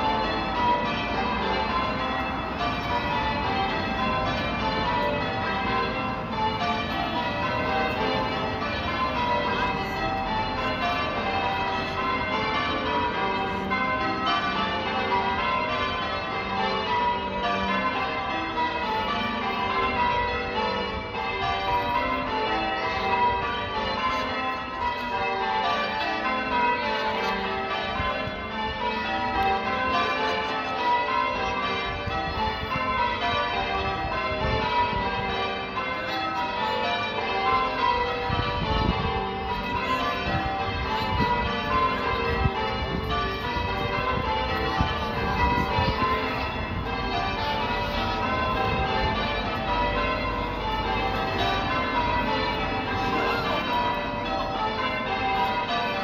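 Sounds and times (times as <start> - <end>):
church bells change ringing: 0.0 - 56.0.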